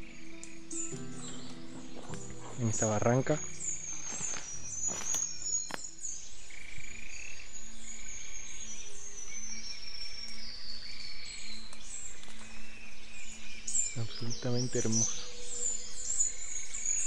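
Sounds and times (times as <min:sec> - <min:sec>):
frogs calling: 0:00.0 - 0:08.4, 0:10.8 - 0:17.0.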